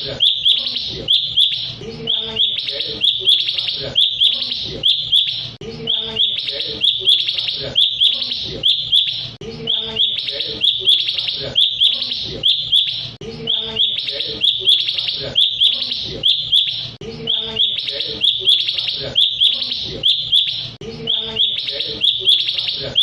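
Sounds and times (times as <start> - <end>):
bird chattering song: 0.0 - 23.0.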